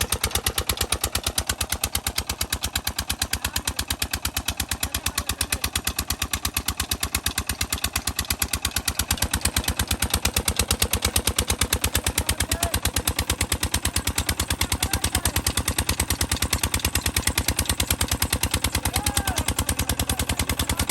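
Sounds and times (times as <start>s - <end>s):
diesel engine running steadily: 0.0s - 20.9s.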